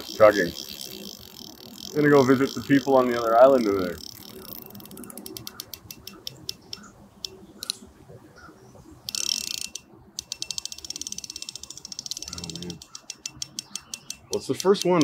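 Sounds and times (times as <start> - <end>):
fishing reel drag clicking: 0.0 - 7.8, 9.0 - 15.0.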